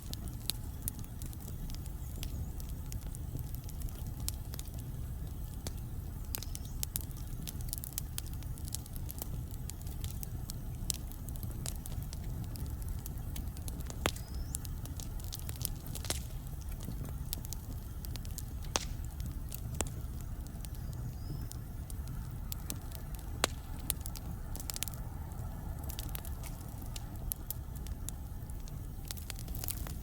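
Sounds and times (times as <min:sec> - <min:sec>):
fire rumbling and crackling: 0:00.0 - 0:30.0.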